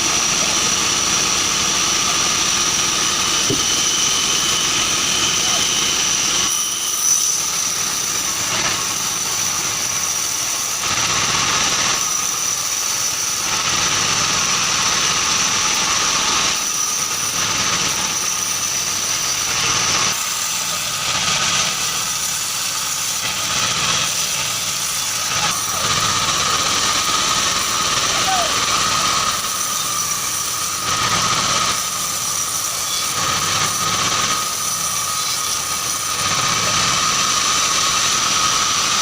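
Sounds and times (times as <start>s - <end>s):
band saw high whine: 0.0s - 39.0s.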